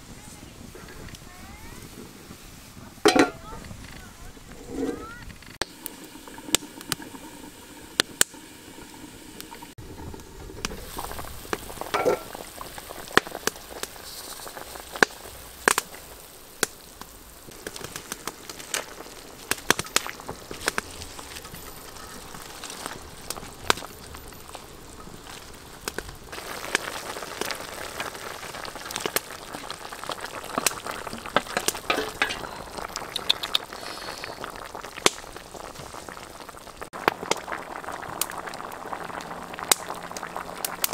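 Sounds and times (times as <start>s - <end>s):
wood fire crackling and popping: 0.0s - 40.9s
broth bubbling: 0.5s - 40.9s.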